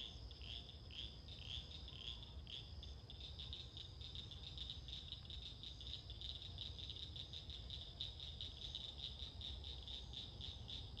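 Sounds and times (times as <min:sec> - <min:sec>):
frogs calling: 0:00.0 - 0:11.0
insect drone: 0:00.0 - 0:11.0.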